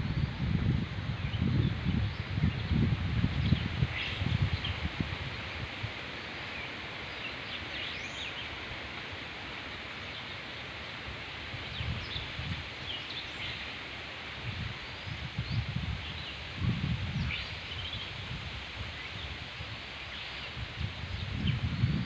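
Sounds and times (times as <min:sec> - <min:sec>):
river hiss: 0:00.0 - 0:22.0.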